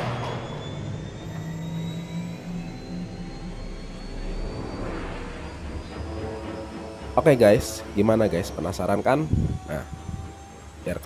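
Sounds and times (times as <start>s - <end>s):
faint high whine rising: 0.0s - 11.0s
low droning hum: 0.0s - 11.0s.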